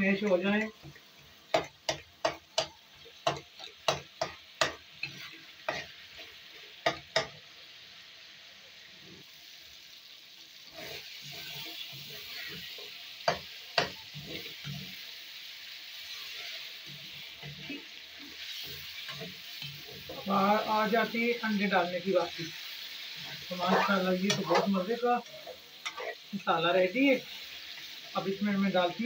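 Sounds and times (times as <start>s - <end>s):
masala sizzling in oil: 0.0s - 29.0s.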